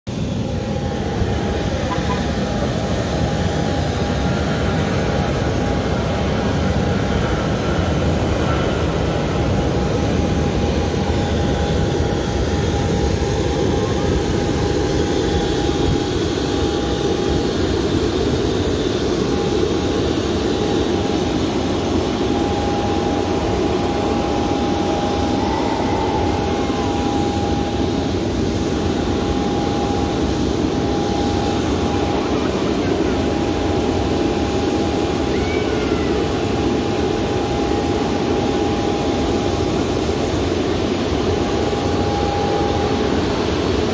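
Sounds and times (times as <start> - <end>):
jet turbine rumble: 0.1 - 43.9
turbine whine: 0.1 - 43.9.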